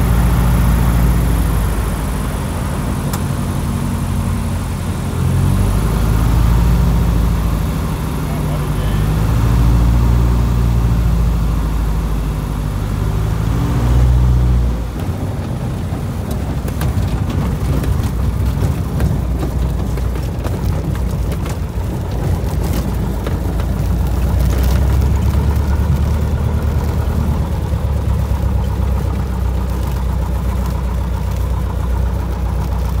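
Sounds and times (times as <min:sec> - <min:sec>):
propeller plane engine: 0:00.0 - 0:33.0.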